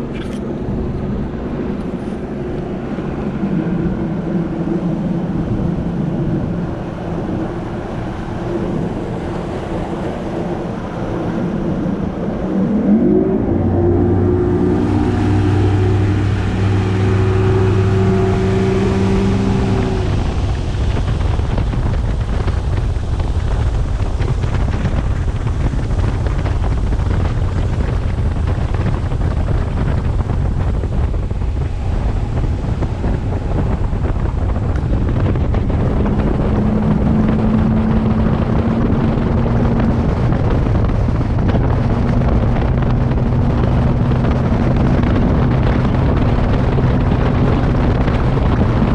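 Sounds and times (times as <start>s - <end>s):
outboard motor running: 0.0s - 48.9s
water rushing: 0.0s - 48.9s
wind buffeting microphone: 0.0s - 48.9s.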